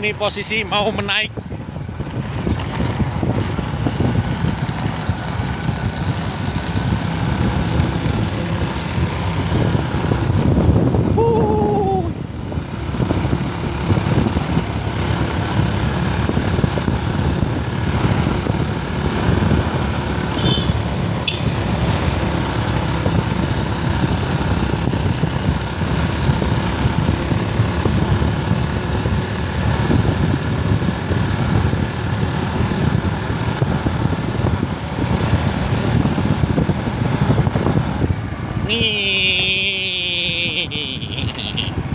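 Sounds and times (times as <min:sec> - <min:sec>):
motorcycle engine under load: 0:00.0 - 0:41.9
road and wind rumble: 0:00.0 - 0:41.9.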